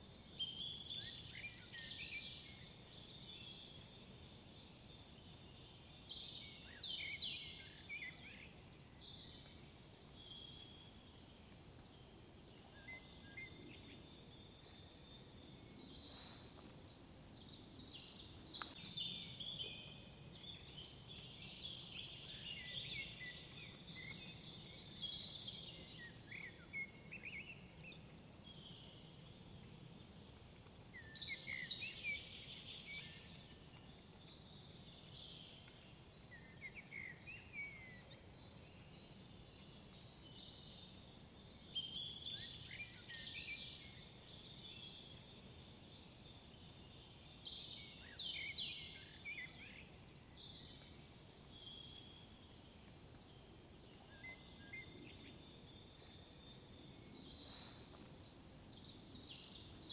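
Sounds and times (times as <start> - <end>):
low background noise: 0.0 - 59.9
songbirds singing: 0.0 - 59.9.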